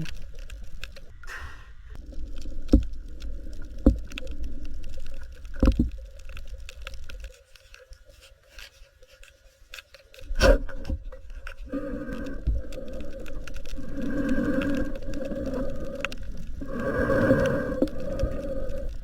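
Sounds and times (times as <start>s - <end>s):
underwater fine crackling: 0.0s - 19.0s.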